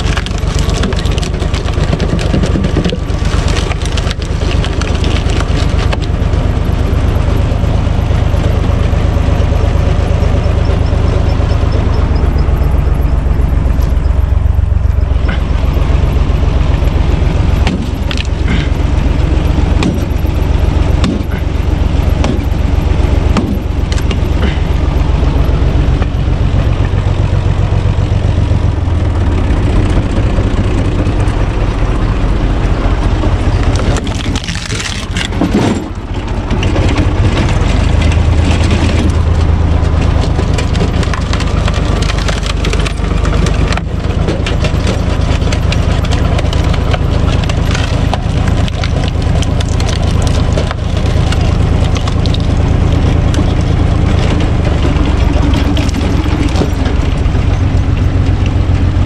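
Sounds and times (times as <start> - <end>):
diesel tractor engine running: 0.0 - 59.0
wood cracking and splitting: 0.0 - 59.0.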